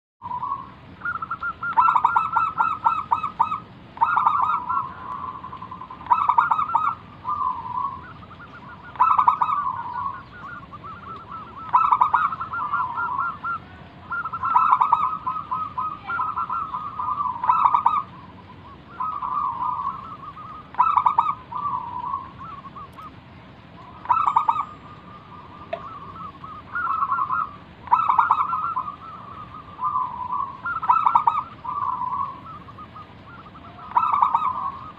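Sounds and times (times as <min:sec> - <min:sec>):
dove cooing: 0:00.2 - 0:34.9.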